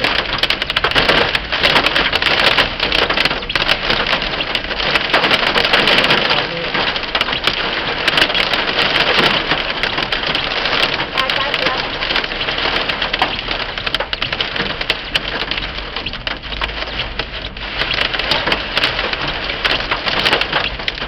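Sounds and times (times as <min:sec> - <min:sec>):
heavy rain and hail pelting: 0:00.0 - 0:21.0.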